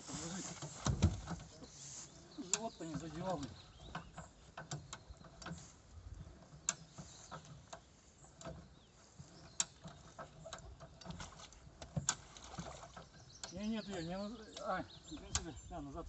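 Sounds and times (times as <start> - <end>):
light clicks and knocks: 0.1 - 1.7, 2.4 - 15.6.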